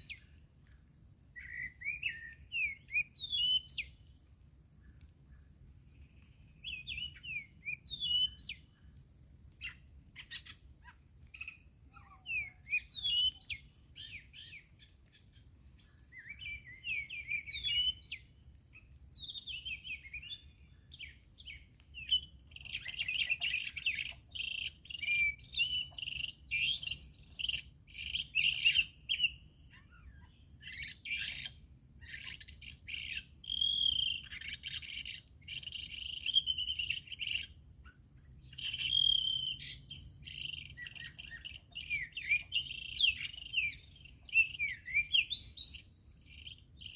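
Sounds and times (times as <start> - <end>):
songbirds chirping and singing: 1.3 - 4.3, 4.9 - 46.9.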